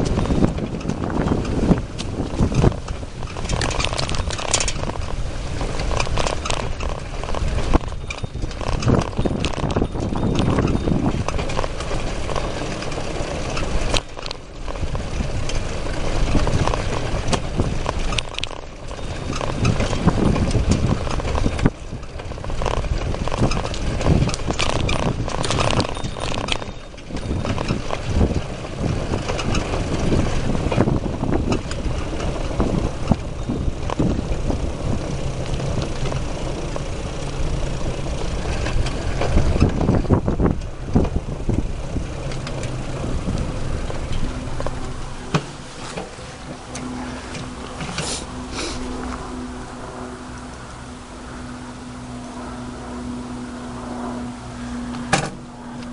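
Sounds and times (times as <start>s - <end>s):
camera rattling on handlebar: 0.0s - 50.6s
rushing wind noise: 0.0s - 55.9s.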